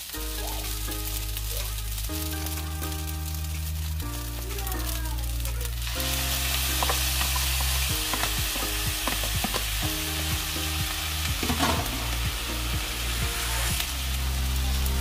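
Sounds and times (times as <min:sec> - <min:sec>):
rice and spinach sizzling in skillet: 0:00.0 - 0:15.0.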